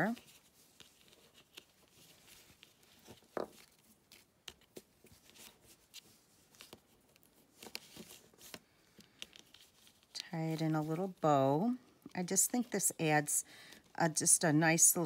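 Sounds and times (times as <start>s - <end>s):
cardstock and twine rustling: 0.0s - 15.0s.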